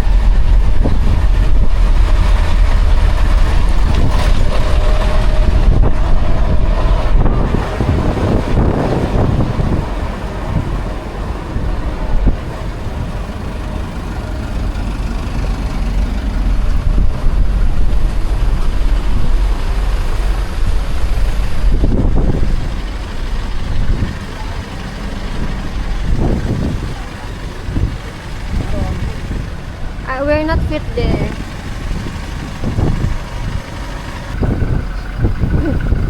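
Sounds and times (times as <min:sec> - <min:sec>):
ferry engines rumbling: 0:00.0 - 0:36.0
wind on microphone: 0:00.0 - 0:36.0.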